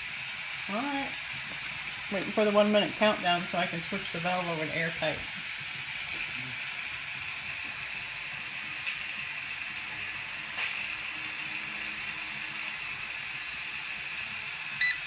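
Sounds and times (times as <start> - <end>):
steam hissing from vent: 0.0 - 15.0.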